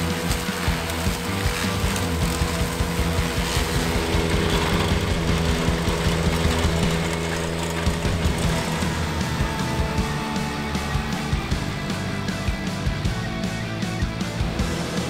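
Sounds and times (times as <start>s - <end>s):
attachment working the ground: 0.0s - 15.0s
tractor engine drone: 0.0s - 15.0s.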